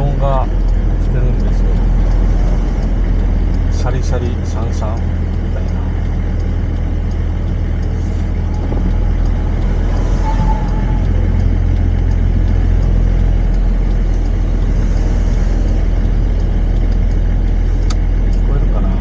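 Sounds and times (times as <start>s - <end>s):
diesel engine rumble: 0.0s - 19.0s
road noise: 0.0s - 19.0s.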